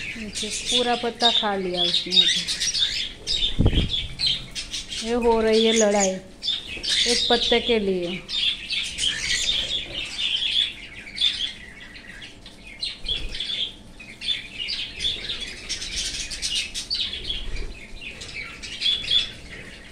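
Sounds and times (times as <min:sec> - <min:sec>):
cockatiels chirping and squawking: 0:00.0 - 0:07.7, 0:08.3 - 0:19.9.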